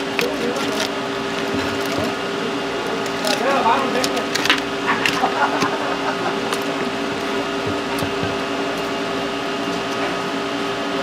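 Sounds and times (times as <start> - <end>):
electric machine hum: 0.0 - 11.0.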